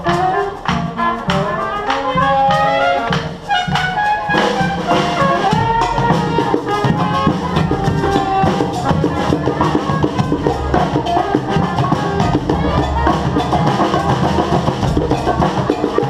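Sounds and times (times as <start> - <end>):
brass band playing: 0.0 - 16.0
drum beat: 0.0 - 16.0.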